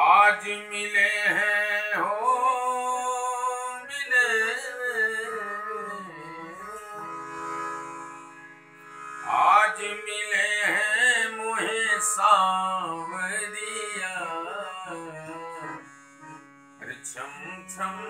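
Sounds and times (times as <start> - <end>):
man singing: 0.0 - 7.1, 9.2 - 15.8, 16.8 - 18.0
harmonium chords: 0.0 - 18.0.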